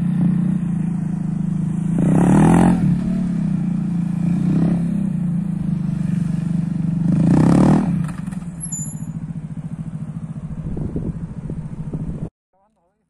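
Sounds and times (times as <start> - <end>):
motorcycle engine revving and idling: 0.0 - 12.7.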